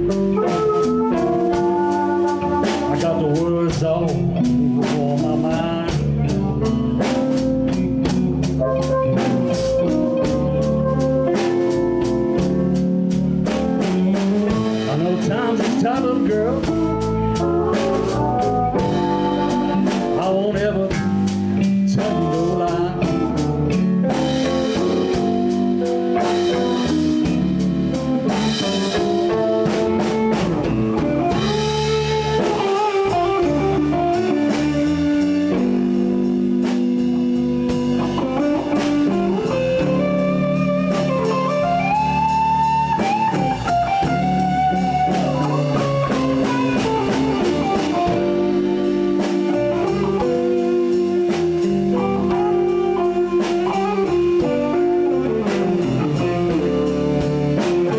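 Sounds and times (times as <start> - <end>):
bass: 0.0 - 57.9
drums: 0.0 - 57.9
electric guitar bending notes: 0.0 - 57.9.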